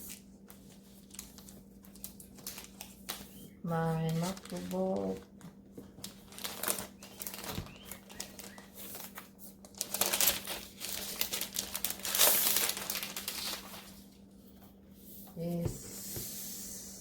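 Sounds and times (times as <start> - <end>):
packaging crinkling and rustling: 0.0 - 14.3.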